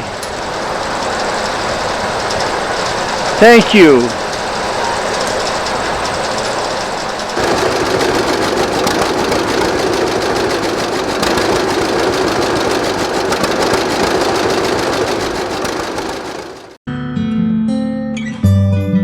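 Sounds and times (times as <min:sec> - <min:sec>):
tractor engine running: 0:00.0 - 0:16.8.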